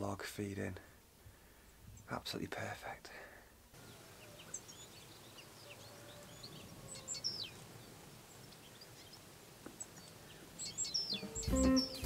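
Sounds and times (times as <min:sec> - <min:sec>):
songbirds chirping: 0:00.0 - 0:12.0
steady background hiss: 0:00.0 - 0:12.0.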